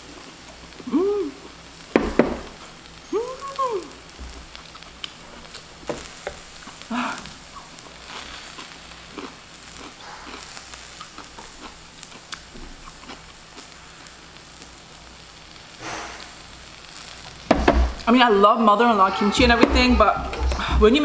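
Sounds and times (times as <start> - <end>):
zucchini sizzling on grill pan: 0.0 - 21.0.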